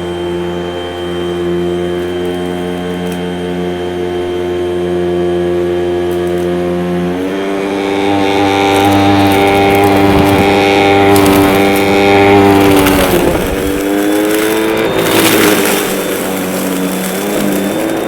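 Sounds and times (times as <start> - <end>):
vacuum cleaner motor humming: 0.0 - 18.0.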